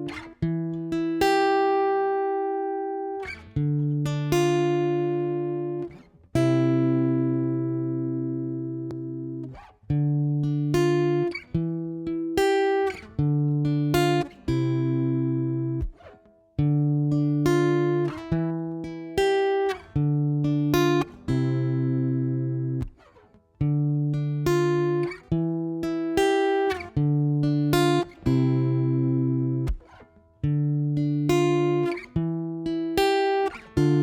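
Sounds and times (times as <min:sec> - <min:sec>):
guitar chords ringing: 0:00.0 - 0:34.0.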